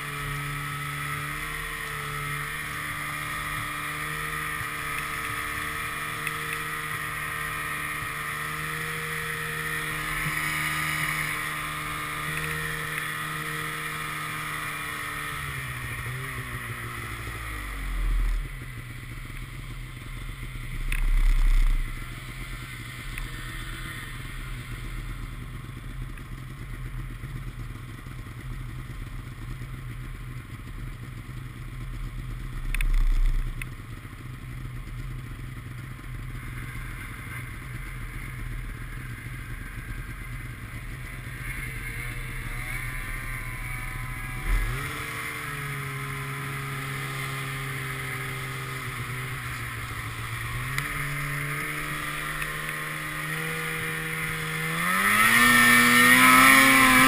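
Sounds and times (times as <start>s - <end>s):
low rumbles: 0.0s - 57.0s
snowmobile engine: 0.0s - 57.0s.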